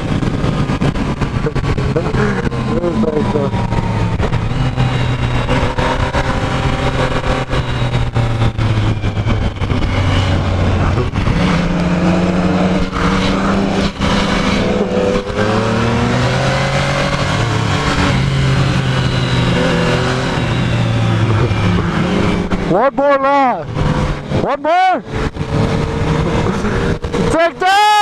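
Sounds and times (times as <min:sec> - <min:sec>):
wind buffeting microphone: 0:00.0 - 0:22.7, 0:25.0 - 0:27.3
motorcycle engine revving: 0:00.0 - 0:27.6.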